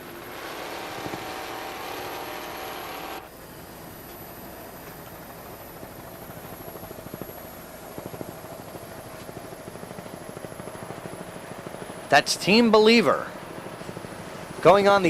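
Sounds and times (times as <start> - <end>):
helicopter rotor beat: 0.0 - 15.0.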